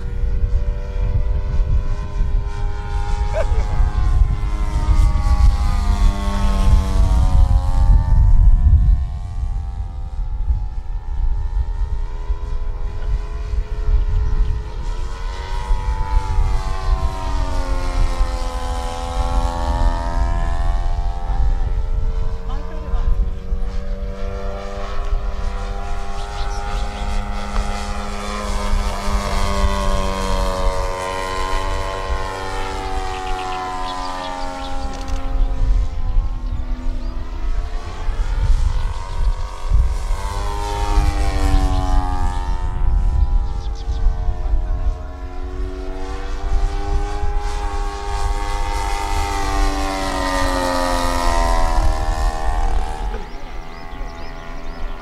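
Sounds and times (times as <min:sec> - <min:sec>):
model airplane motor droning: 0:00.0 - 0:55.0.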